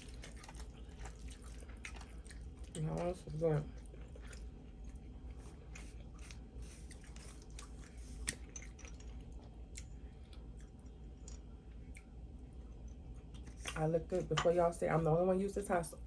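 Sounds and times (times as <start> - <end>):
person chewing spaghetti: 0.0 - 13.6.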